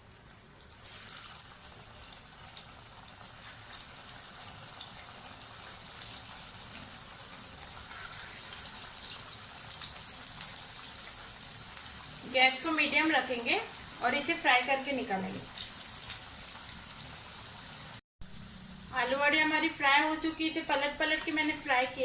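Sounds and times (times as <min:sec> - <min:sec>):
hot oil sizzling and crackling: 0:00.0 - 0:22.0.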